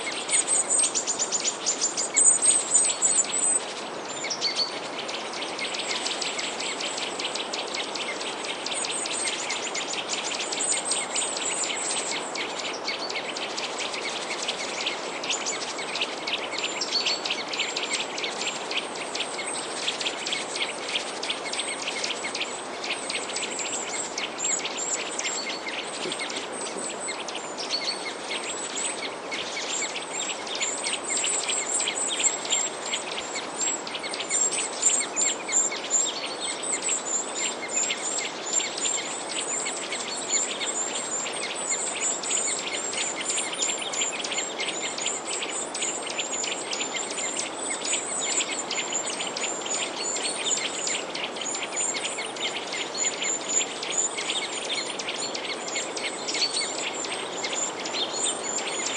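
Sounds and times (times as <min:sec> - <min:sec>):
small birds chirping: 0:00.0 - 0:58.9
steady background hiss: 0:00.0 - 0:58.9.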